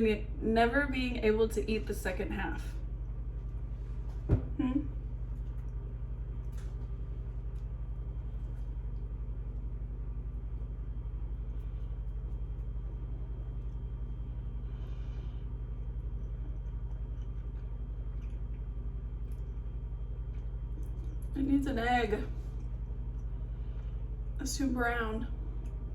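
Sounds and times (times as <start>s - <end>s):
pulsing low hum: 0.0s - 25.9s.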